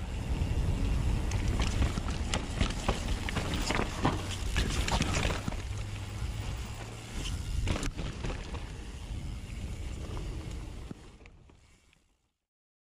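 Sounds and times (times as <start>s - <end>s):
wind on microphone: 0.0s - 11.2s
bike tyre noise: 0.0s - 12.4s
bike rattling and knocking: 0.2s - 11.7s.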